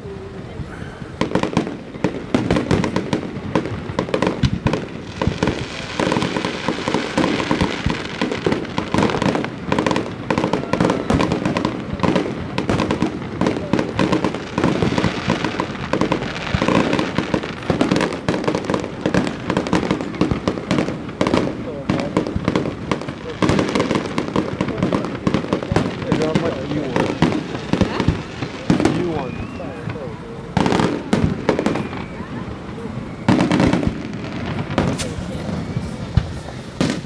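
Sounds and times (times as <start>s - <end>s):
fireworks cracks and bangs: 0.6s - 37.0s.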